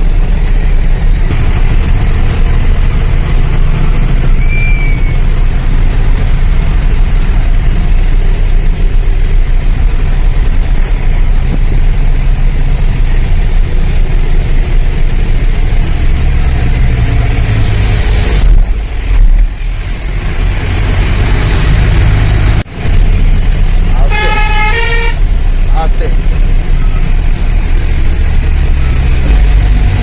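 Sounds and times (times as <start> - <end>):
truck engine rumbling: 0.0 - 30.0.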